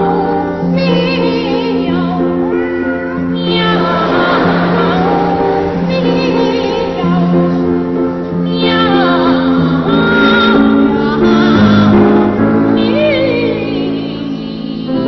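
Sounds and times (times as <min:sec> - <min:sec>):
held accompaniment notes: 0:00.0 - 0:15.0
voices singing: 0:00.0 - 0:15.0.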